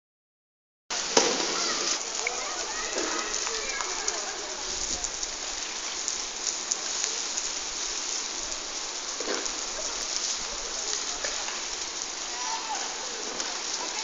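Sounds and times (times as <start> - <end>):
heavy rain on hard surface: 0.9 - 14.0.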